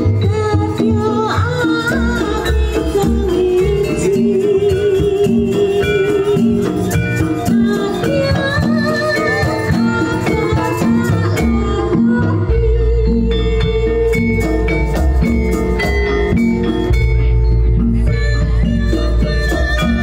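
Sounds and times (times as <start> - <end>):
live ensemble music: 0.0 - 20.0.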